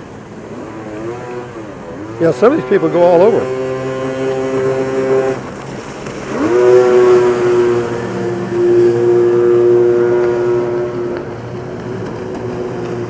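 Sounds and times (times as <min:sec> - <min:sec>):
jet ski engines whining: 0:00.0 - 0:13.0.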